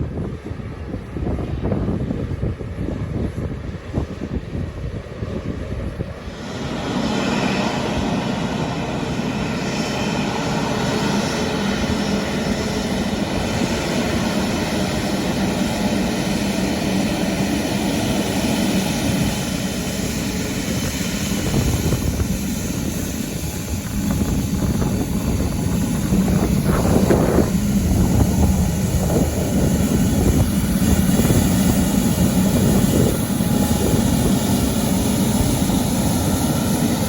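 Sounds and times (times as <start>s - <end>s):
jet engines at high power: 0.0s - 37.0s.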